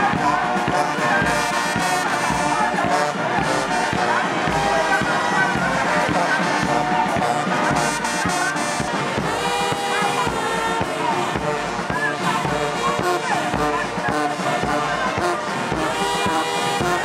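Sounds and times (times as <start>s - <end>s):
brass band music: 0.0s - 17.0s
steady drum beat: 0.0s - 17.0s.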